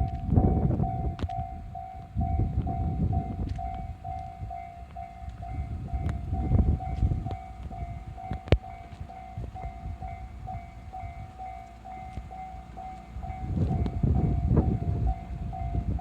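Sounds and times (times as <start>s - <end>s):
level crossing alarm tone: 0.0s - 16.0s
train rumbling: 0.0s - 16.0s.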